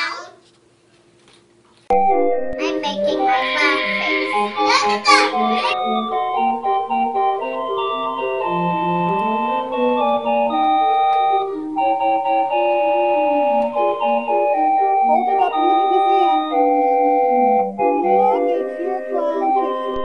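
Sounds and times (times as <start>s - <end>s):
electronic keyboard melody: 1.9s - 20.0s.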